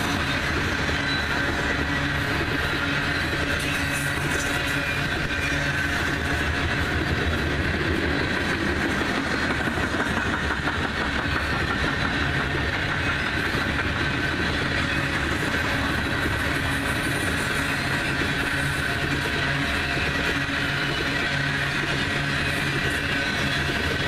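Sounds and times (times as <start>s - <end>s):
train wheels rolling on rails: 0.0s - 24.0s.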